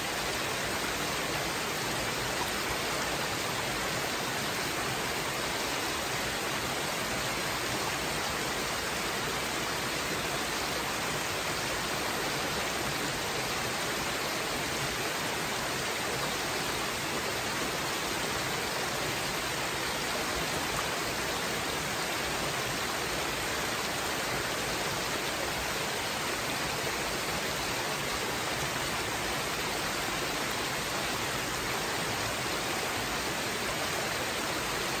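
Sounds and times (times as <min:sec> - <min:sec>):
brook water rushing over rocks: 0:00.0 - 0:35.0.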